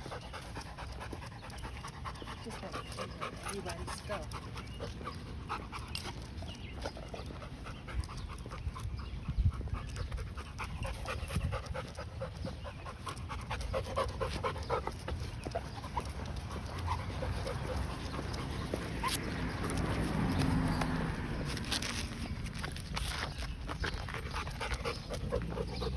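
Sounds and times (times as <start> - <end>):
dog panting: 0.0 - 25.9.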